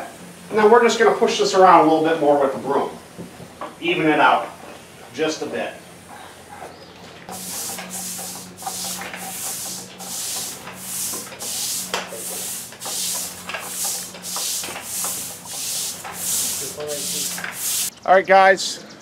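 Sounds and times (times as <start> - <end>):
push broom scrubbing wet concrete: 0.0 - 3.1, 3.8 - 6.2, 7.3 - 17.9.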